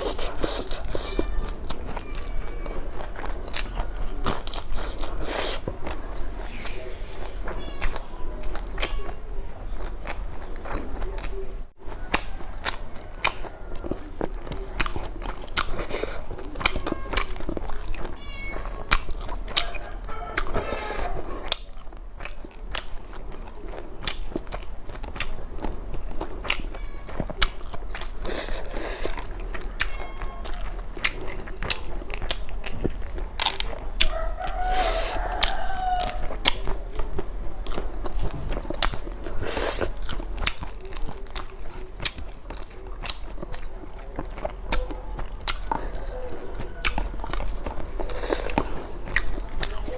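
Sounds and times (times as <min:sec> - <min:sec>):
person chewing and lip-smacking: 0:00.0 - 0:06.4, 0:07.4 - 0:49.9.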